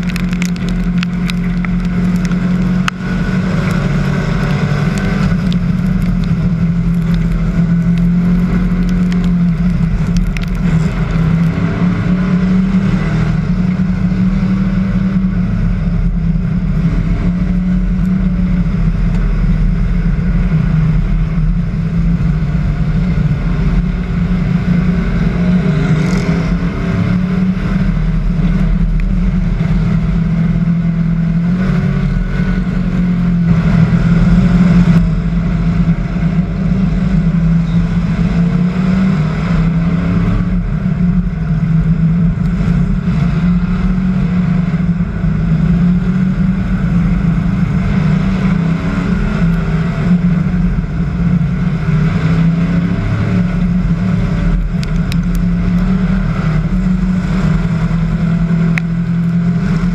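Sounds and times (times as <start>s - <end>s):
race car engine running: 0.0s - 59.9s.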